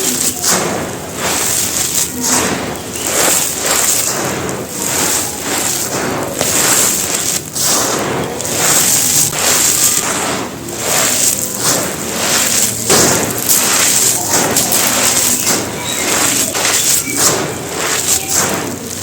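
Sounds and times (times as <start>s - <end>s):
gritty material crunching by hand: 0.0s - 19.0s.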